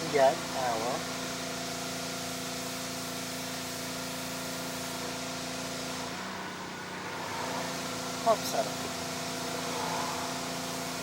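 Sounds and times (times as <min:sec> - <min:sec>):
machine hum with hiss: 0:00.0 - 0:11.0.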